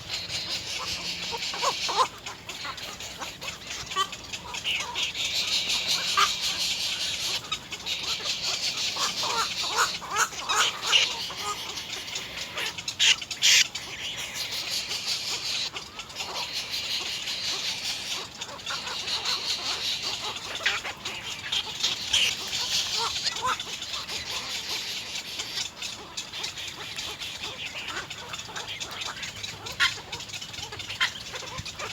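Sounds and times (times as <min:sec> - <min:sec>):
bird squawks: 0:00.0 - 0:31.9
nestlings chattering: 0:00.0 - 0:31.9.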